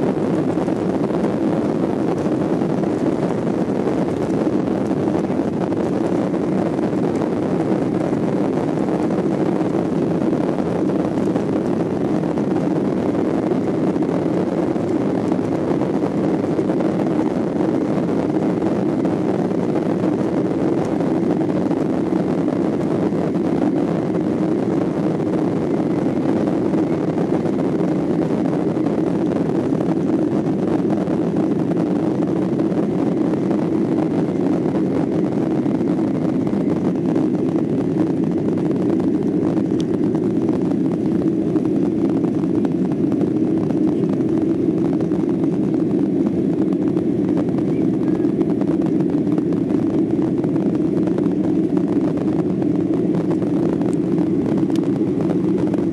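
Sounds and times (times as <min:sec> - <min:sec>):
jet engine noise inside cabin: 0:00.0 - 0:55.9.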